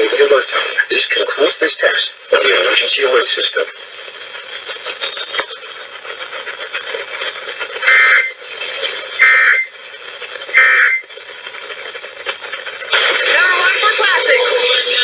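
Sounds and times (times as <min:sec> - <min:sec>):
radio hiss: 0:00.0 - 0:15.0
warbling data tones: 0:00.0 - 0:15.0.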